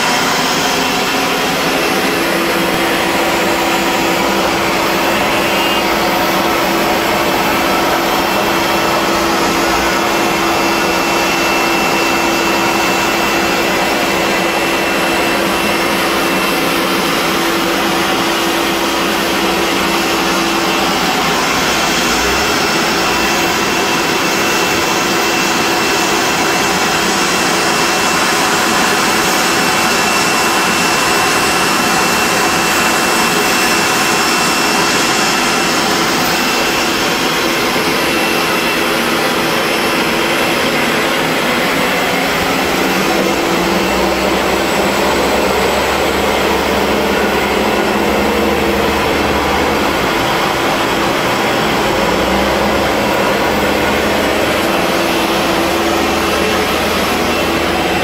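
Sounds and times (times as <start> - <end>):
aircraft turbine running: 0.0 - 58.0.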